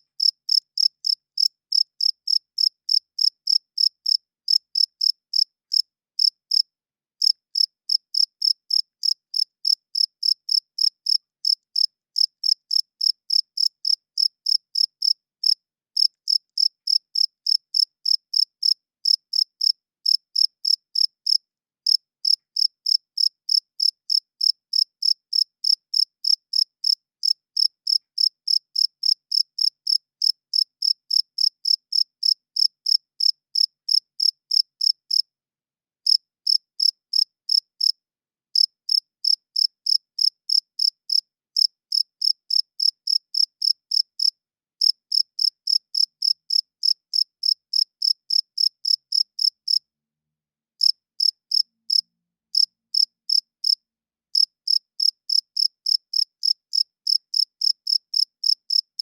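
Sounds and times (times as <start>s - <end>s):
cricket chirping: 0.2s - 6.6s, 7.2s - 35.2s, 38.6s - 49.8s, 50.8s - 52.0s, 52.6s - 53.8s, 54.4s - 58.9s.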